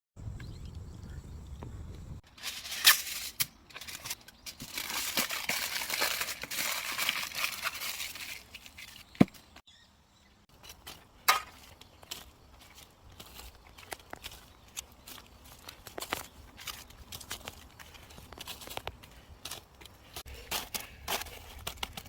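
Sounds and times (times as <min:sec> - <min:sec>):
crinkling and scraping: 0:02.2 - 0:09.7, 0:10.5 - 0:22.0.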